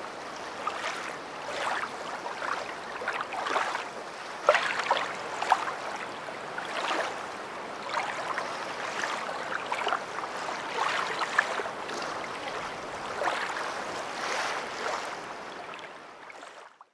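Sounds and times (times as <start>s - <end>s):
river water rushing: 0.0s - 16.6s
small water splashes: 0.0s - 16.9s.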